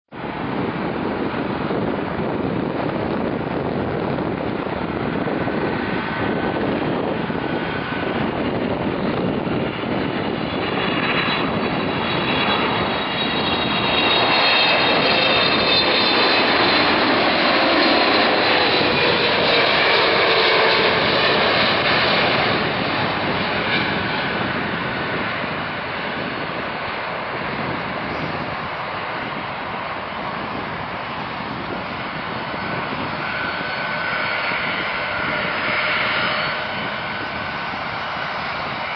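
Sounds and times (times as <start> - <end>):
jet engine roar with whining fan: 0.1 - 38.9.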